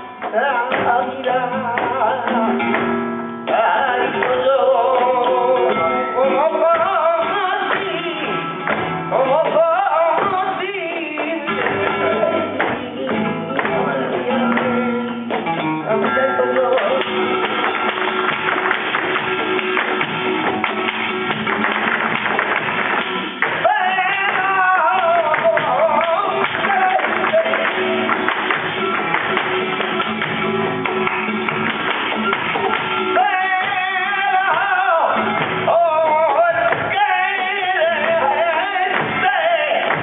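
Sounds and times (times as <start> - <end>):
rhythmic guitar strumming: 0.0 - 40.0.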